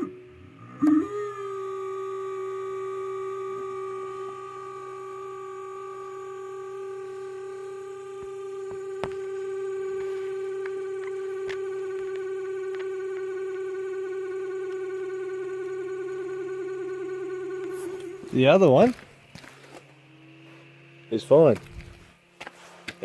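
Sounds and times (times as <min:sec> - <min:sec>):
cooling fan droning hum: 0:00.0 - 0:23.0.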